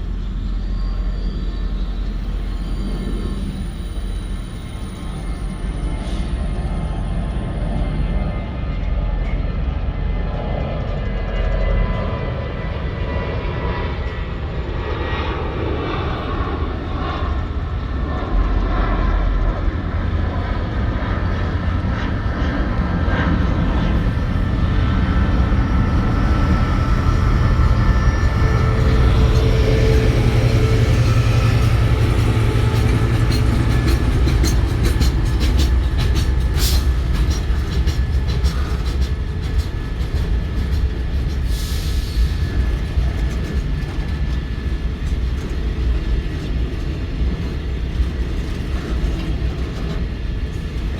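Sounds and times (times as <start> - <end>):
moving train rumble: 0.0 - 50.9.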